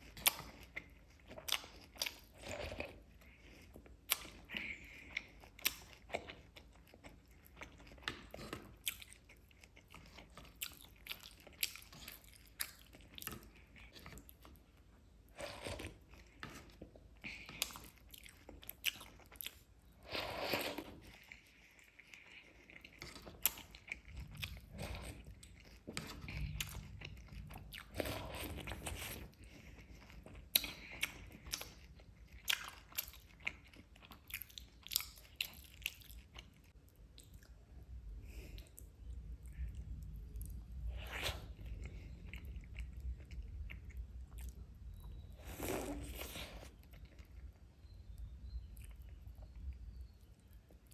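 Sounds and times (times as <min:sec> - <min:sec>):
chewing crunchy food: 0:00.0 - 0:50.9.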